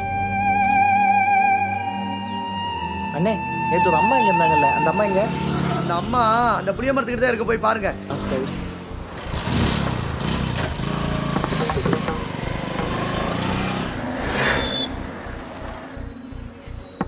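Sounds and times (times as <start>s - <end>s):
vehicles passing: 3.2s - 17.0s.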